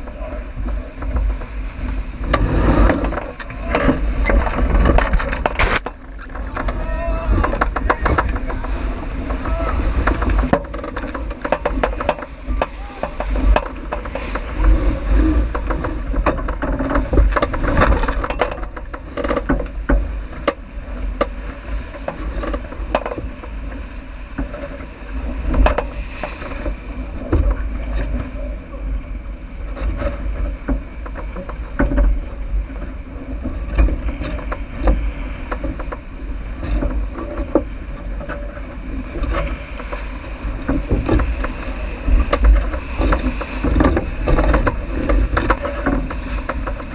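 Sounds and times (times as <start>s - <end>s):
short knocks from boat: 0.0s - 46.9s
water rushing along hull: 0.0s - 46.9s
wind buffeting microphone: 0.0s - 46.9s.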